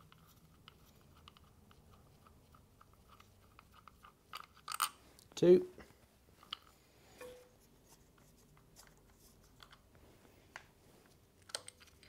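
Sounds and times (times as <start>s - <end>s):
faint clicks and rubbing of bolts: 0.0s - 5.3s, 5.9s - 12.0s.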